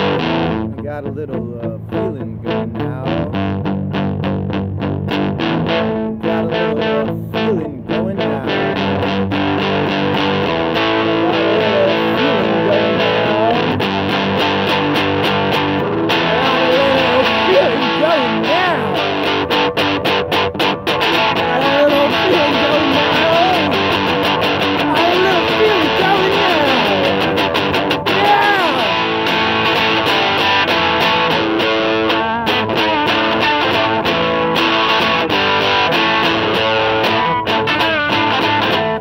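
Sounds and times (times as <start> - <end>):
loud electric guitar chords: 0.0 - 39.0.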